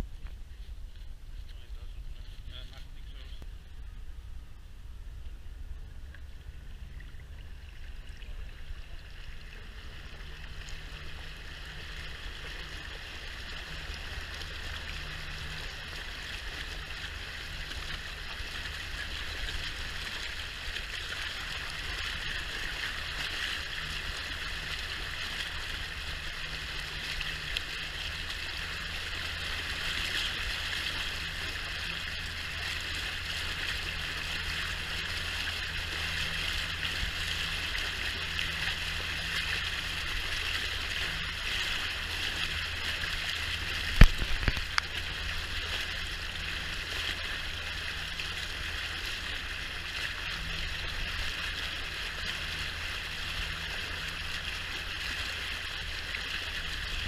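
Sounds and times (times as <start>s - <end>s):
boat engine humming: 0.0s - 57.0s
water rushing and spraying: 6.1s - 57.0s.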